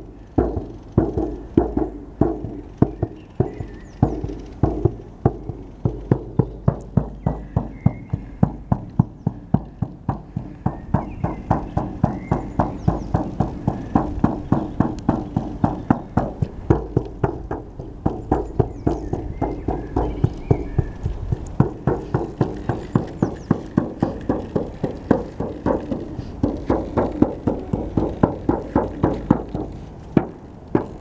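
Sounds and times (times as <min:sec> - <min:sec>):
frame drum beaten: 0:00.0 - 0:31.0.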